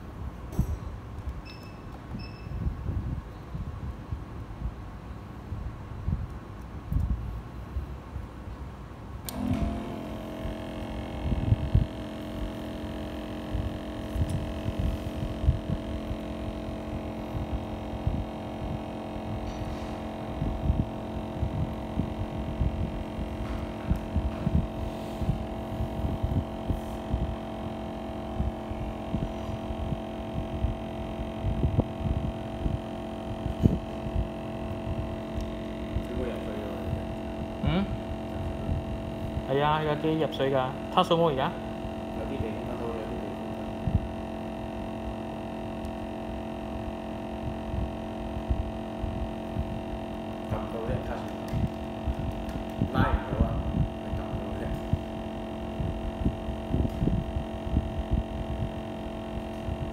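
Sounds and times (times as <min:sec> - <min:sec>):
bench tool humming: 0:09.2 - 0:59.9.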